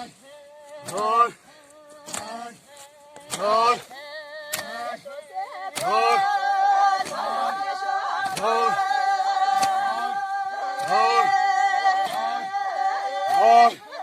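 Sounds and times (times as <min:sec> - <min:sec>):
voices singing short phrases: 0:00.0 - 0:14.0.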